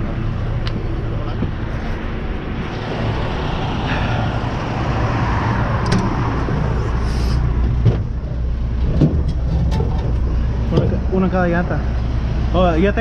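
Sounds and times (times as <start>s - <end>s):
road traffic noise: 0.0s - 13.0s
vehicle engine running: 0.0s - 13.0s.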